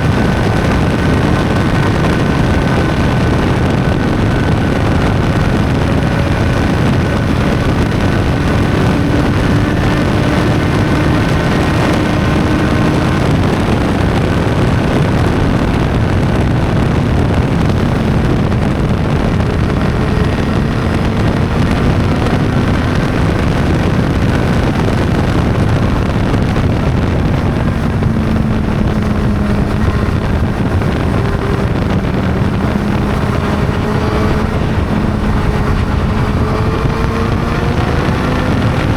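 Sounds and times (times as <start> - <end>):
motorcycle engine cruising: 0.0 - 38.9
wind buffeting on microphone: 0.0 - 38.9.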